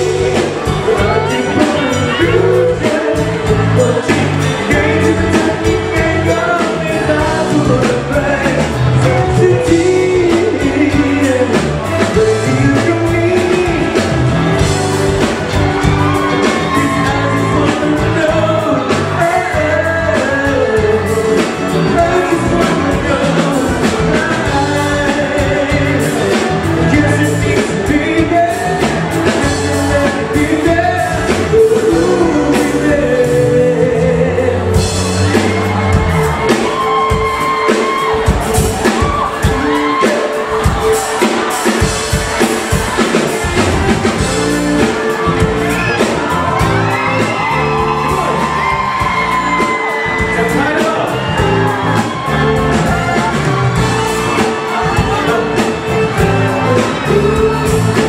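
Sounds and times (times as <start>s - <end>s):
live pop-rock band: 0.0s - 58.0s
man singing: 0.0s - 58.0s.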